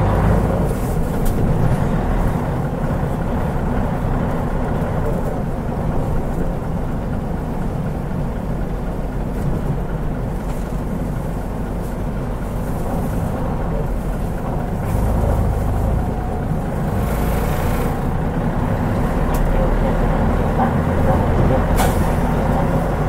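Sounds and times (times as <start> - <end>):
bus diesel engine rumble: 0.0 - 23.0
road noise: 0.0 - 23.0.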